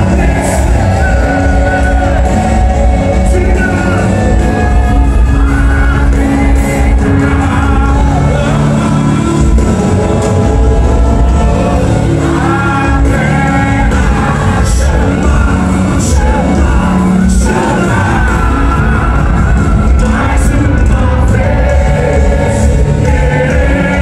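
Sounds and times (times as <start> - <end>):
worship singing over full band: 0.0 - 24.0.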